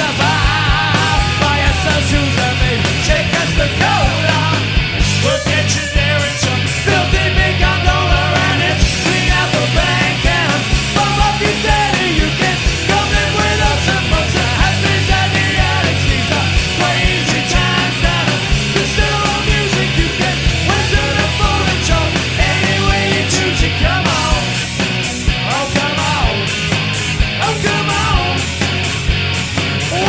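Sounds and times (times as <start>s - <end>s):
lead vocal singing: 0.0s - 26.7s, 27.3s - 28.7s, 29.8s - 30.0s
fast drumbeat: 0.0s - 30.0s
rock band playing live: 0.0s - 30.0s.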